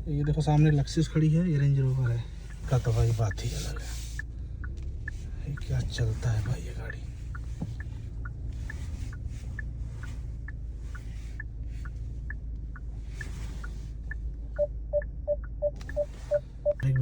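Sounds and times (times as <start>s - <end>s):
engine and road rumble: 0.0s - 17.0s
parking sensor beeping: 0.0s - 17.0s
regular ticking: 0.0s - 17.0s.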